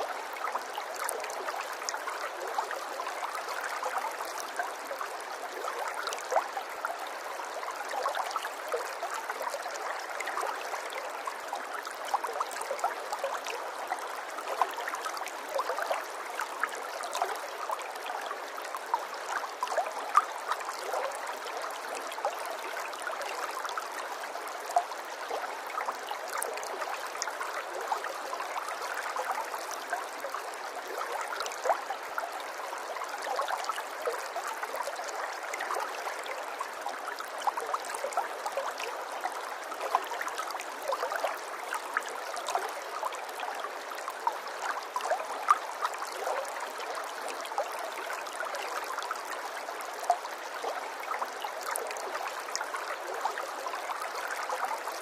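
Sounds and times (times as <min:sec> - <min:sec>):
stream trickling and gurgling: 0:00.0 - 0:55.0.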